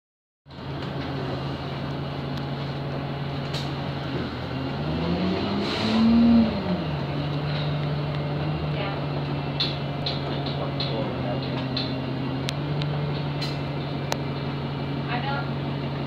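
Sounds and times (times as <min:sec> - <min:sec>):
bus diesel engine: 0:00.5 - 0:16.0.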